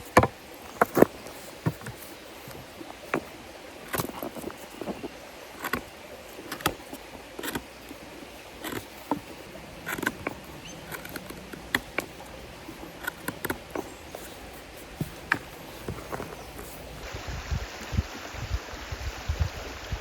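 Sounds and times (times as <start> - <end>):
flowing stream: 0.0 - 20.0.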